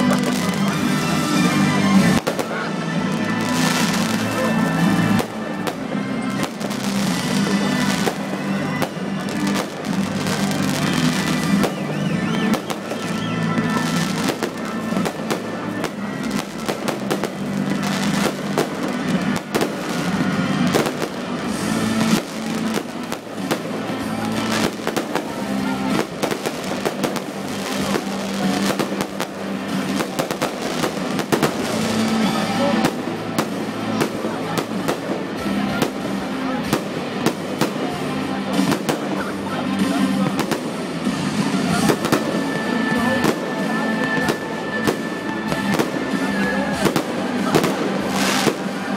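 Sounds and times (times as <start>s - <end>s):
fireworks bangs and crackles: 0.0s - 48.9s
music: 0.0s - 48.9s.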